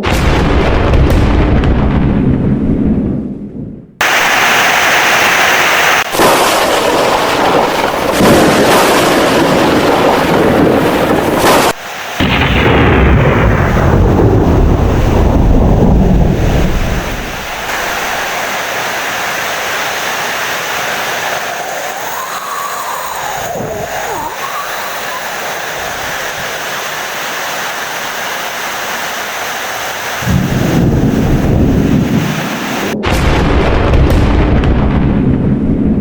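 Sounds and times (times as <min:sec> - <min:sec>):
rolling thunder: 0:00.0 - 0:04.6, 0:06.0 - 0:26.5, 0:30.2 - 0:36.0
heavy rain: 0:04.0 - 0:33.6.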